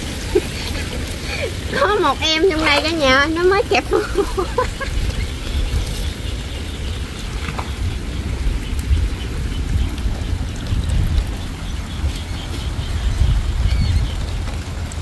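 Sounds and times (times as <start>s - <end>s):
water sloshing: 0.0s - 15.0s
wind rumble on microphone: 0.0s - 15.0s.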